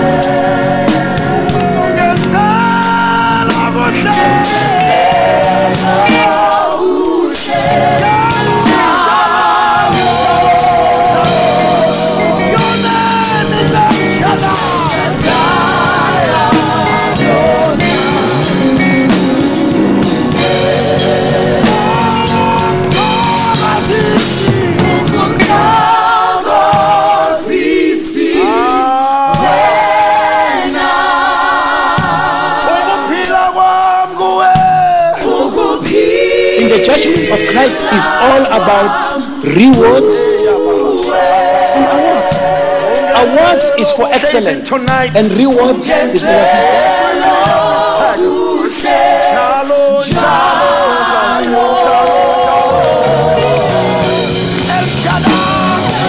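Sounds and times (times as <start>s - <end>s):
band with drums: 0.0s - 56.0s
group singing gospel: 0.0s - 56.0s.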